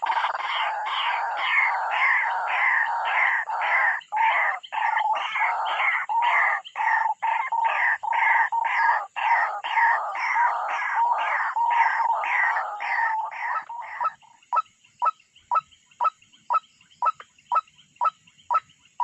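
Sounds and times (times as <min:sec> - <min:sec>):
waterhen harsh calls: 0:00.0 - 0:18.7.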